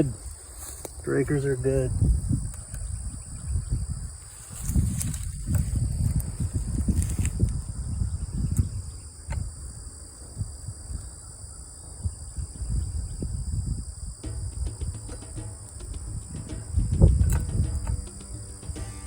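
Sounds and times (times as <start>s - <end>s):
insects chirring: 0.0s - 19.0s
low rumbling of wind or handling: 0.0s - 19.0s.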